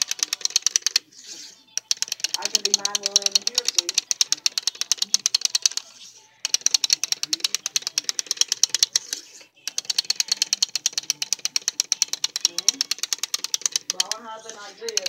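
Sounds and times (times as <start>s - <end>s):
clockwork toy clicking: 0.0s - 15.0s.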